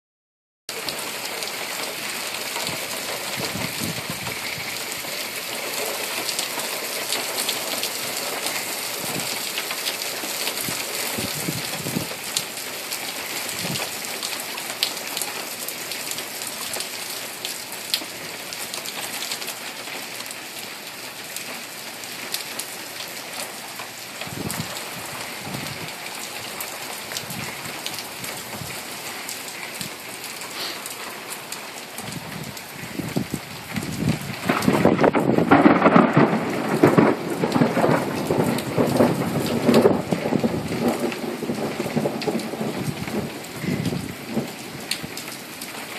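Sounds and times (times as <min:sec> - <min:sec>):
rain falling steadily: 0:00.7 - 0:45.9
raindrops ticking close by: 0:00.7 - 0:45.9.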